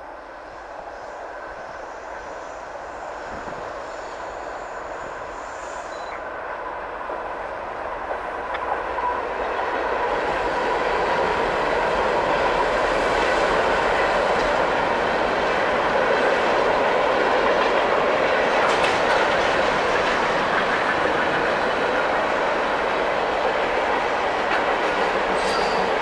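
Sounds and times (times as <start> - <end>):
train running on rails: 0.0 - 26.0.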